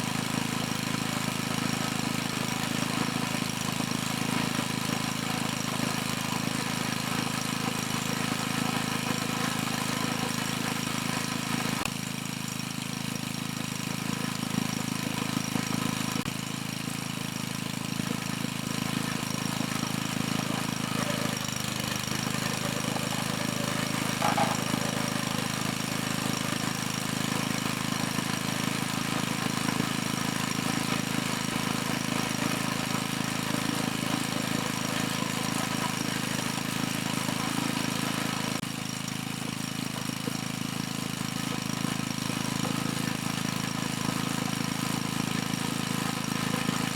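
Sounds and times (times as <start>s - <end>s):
log splitter engine running: 0.0s - 46.9s.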